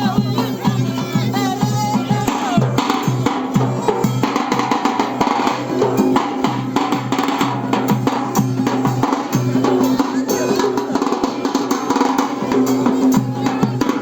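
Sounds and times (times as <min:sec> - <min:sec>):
fast dense drum beat: 0:00.0 - 0:14.0
loud wedding music: 0:00.0 - 0:14.0.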